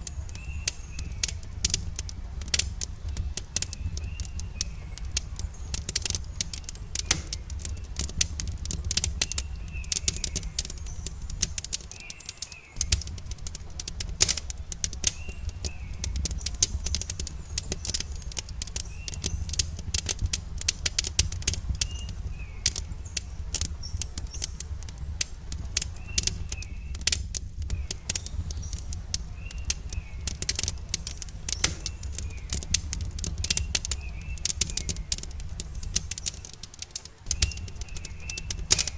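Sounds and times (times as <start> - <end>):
bird chirping: 0.0 - 2.2, 3.0 - 13.5, 14.4 - 20.2, 20.9 - 24.8, 27.7 - 36.6, 37.2 - 38.9
campfire crackling and popping: 0.0 - 38.9
low rumble of burning wood: 0.0 - 38.9.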